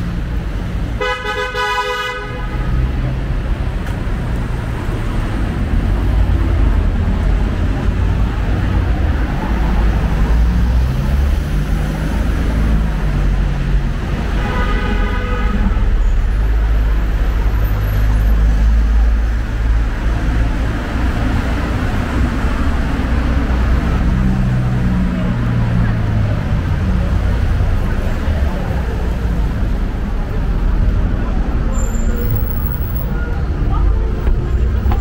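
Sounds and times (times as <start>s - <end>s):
cars driving past: 0.0s - 35.0s.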